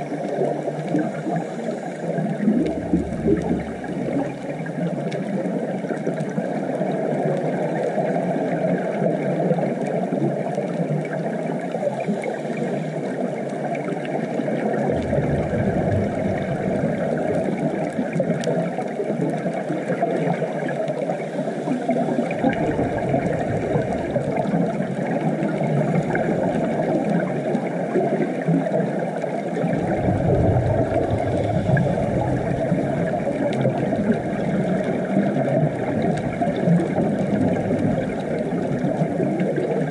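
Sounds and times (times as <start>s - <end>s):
muffled underwater rushing hiss: 0.0s - 39.9s.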